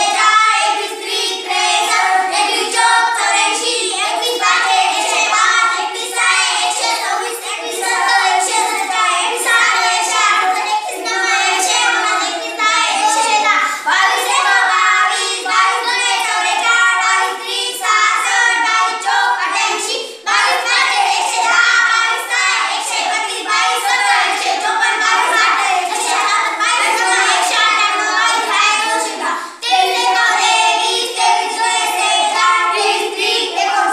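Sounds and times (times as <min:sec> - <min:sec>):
children chanting in unison: 0:00.0 - 0:33.9.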